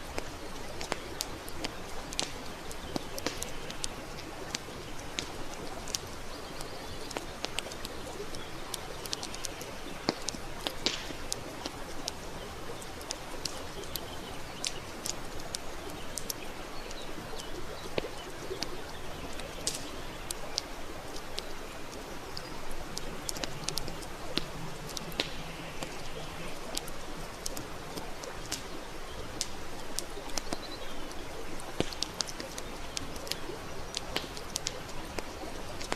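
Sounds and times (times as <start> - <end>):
campfire crackling: 0.0 - 35.9.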